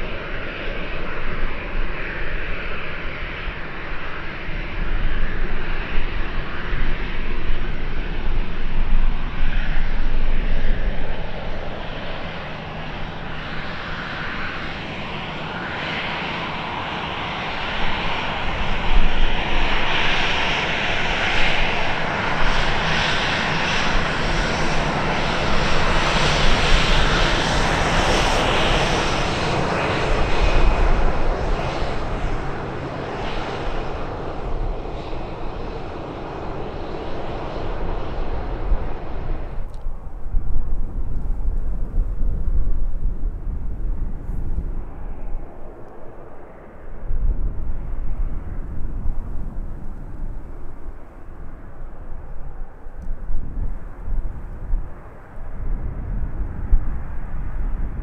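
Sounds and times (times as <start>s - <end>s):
jet engine whine and hiss: 0.0s - 58.0s.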